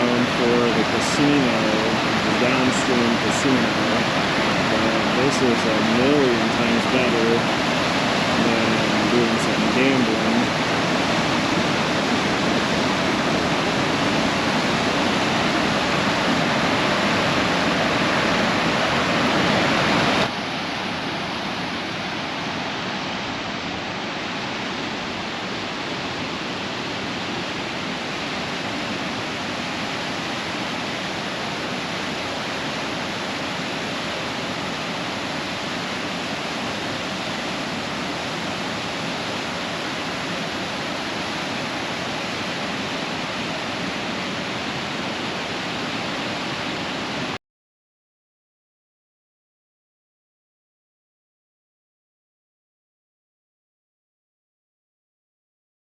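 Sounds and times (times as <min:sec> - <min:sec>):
waterfall roaring: 0:00.0 - 0:47.4.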